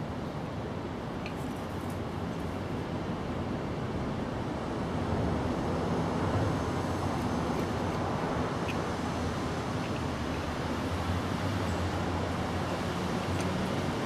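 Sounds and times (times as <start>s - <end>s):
outdoor background rumble and hiss: 0.0s - 14.0s.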